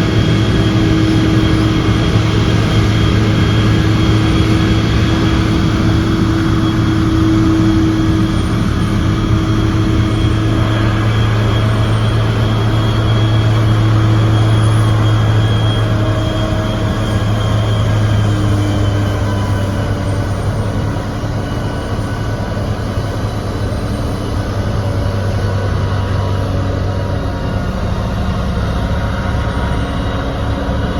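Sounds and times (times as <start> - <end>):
heavy engine humming: 0.0 - 30.9.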